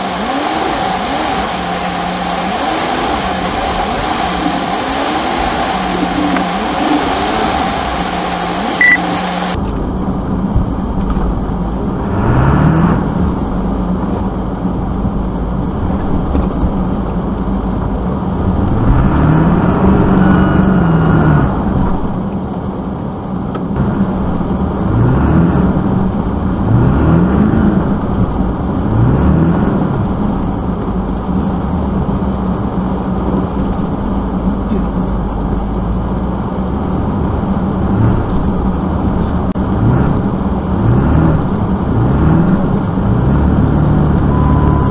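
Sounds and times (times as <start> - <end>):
vehicle engine revving: 0.0 - 22.4, 23.6 - 44.9.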